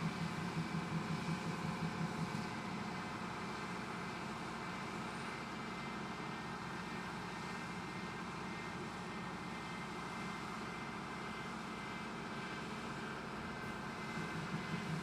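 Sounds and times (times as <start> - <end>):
woodworking machine hum: 0.0 - 15.0.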